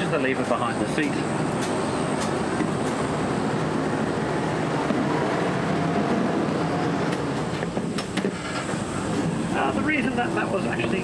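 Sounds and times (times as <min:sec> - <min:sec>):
truck engine and drivetrain: 0:00.0 - 0:11.0.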